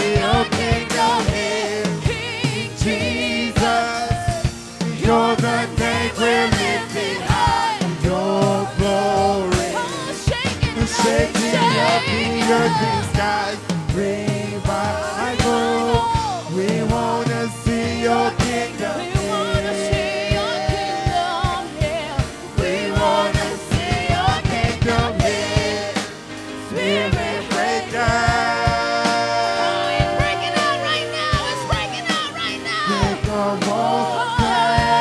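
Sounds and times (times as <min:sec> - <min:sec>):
gospel band playing: 0:00.0 - 0:35.0
singers holding long notes: 0:00.0 - 0:35.0.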